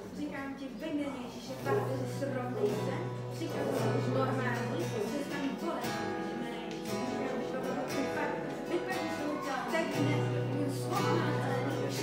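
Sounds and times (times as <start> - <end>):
strummed acoustic guitar: 1.5 - 12.0.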